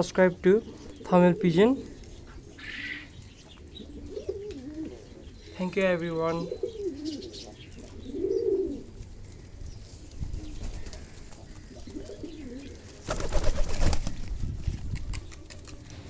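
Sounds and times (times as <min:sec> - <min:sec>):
pigeons cooing: 0:00.0 - 0:14.2, 0:14.8 - 0:16.0.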